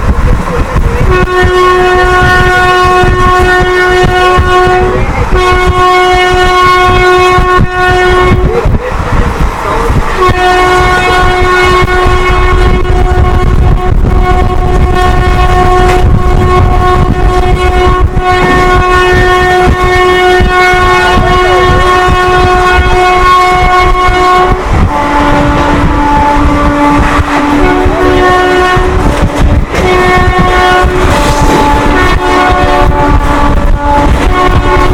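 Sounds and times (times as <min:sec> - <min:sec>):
locomotive two-tone horn: 0:00.0 - 0:34.9
train rumble and clatter: 0:00.0 - 0:34.9.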